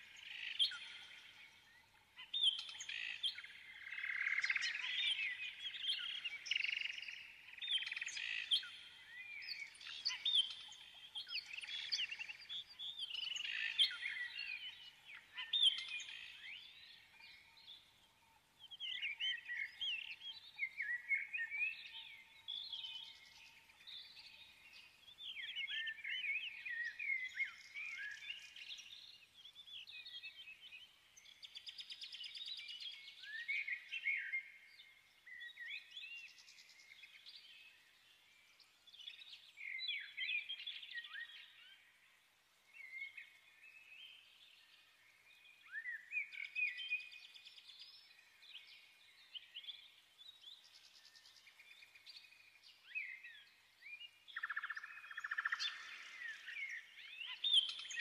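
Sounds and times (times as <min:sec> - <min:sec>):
birds chirping and singing: 0:00.2 - 0:38.0, 0:42.8 - 0:58.0.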